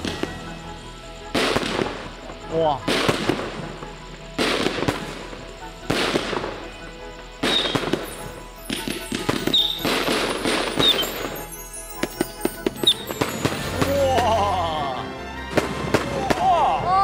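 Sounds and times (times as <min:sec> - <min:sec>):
fireworks bursting and crackling: 0:00.0 - 0:17.0
music: 0:00.0 - 0:17.0.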